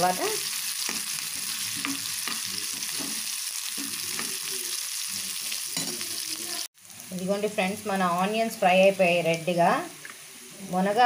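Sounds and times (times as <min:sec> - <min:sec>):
onions sizzling in a frying pan: 0:00.0 - 0:11.0.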